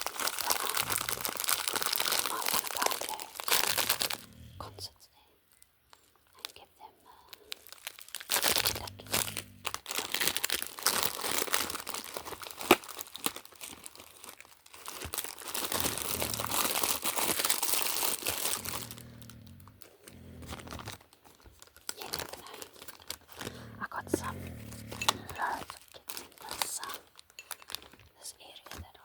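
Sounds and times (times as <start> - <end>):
packaging crinkling and tearing: 0.0 - 4.5, 7.2 - 28.8.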